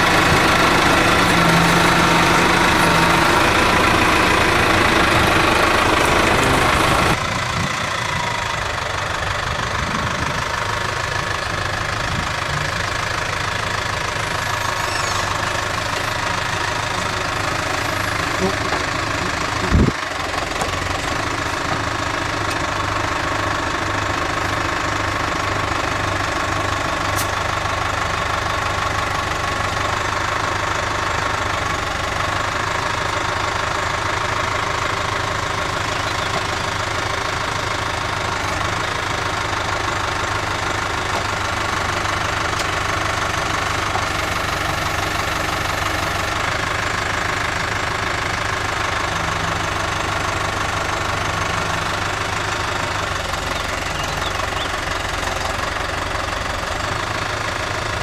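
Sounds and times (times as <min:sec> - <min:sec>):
machine engine running: 0:00.0 - 0:58.0.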